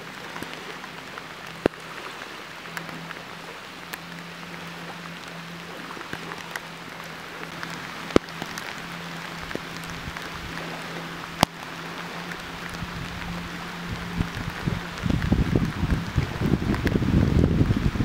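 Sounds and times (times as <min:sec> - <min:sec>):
light rain falling: 0:00.0 - 0:18.0
raindrops ticking: 0:00.0 - 0:18.0.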